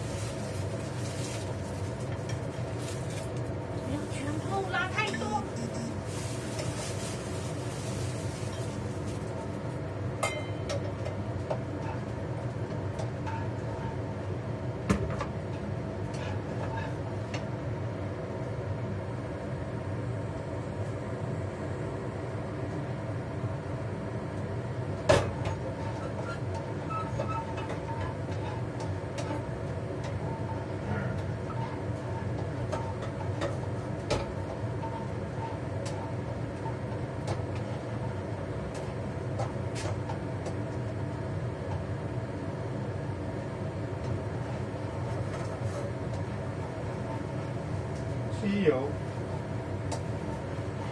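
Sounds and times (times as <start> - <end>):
range hood fan humming: 0.0 - 50.9.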